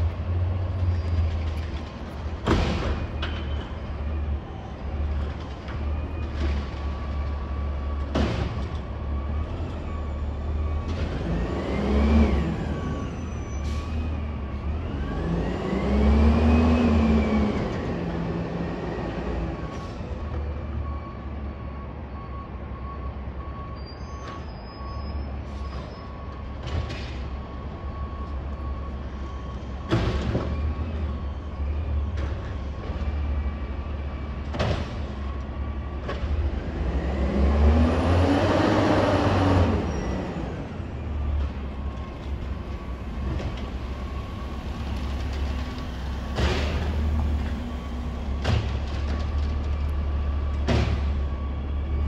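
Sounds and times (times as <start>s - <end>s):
garbage truck diesel engine: 0.0s - 52.0s.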